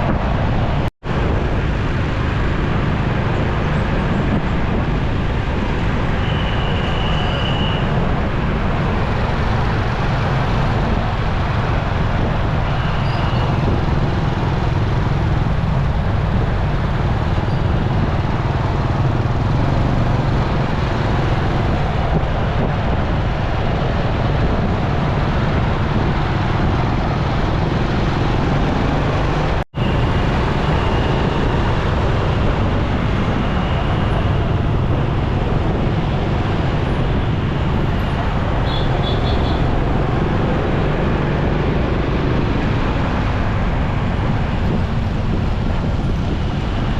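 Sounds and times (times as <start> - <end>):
city traffic: 0.0 - 46.9
motorcycle engine and road noise: 0.0 - 46.9.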